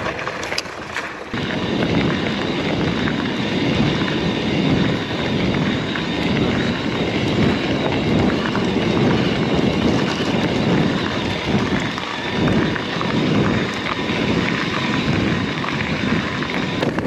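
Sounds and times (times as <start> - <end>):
bike rattles and ticks: 0.0 - 17.0
wind buffeting microphone: 1.3 - 17.0.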